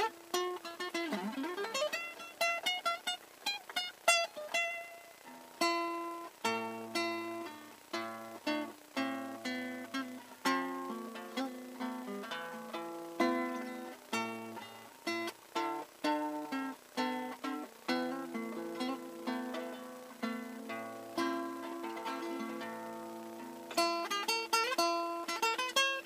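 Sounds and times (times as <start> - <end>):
classical guitar playing: 0.0 - 26.0.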